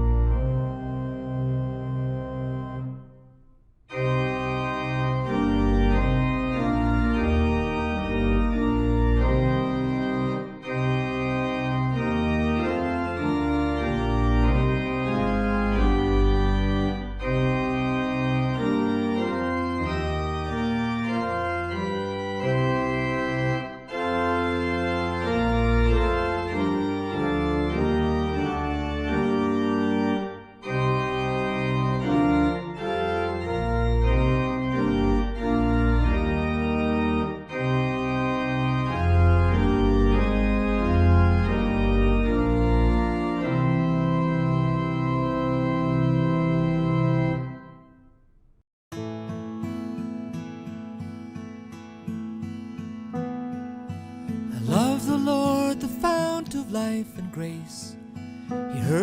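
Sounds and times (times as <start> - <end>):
organ playing a hymn: 0.0 - 3.3, 3.9 - 48.0, 54.5 - 59.0.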